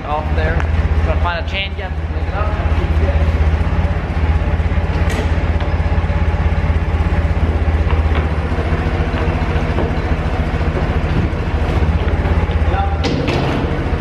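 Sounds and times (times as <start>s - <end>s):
forklift engine idling: 0.0s - 14.0s.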